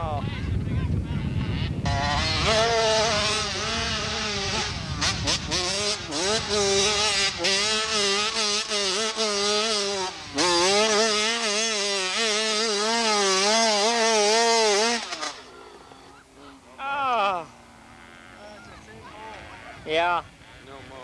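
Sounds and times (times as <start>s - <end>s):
dirt bike engine revving: 1.2s - 21.0s.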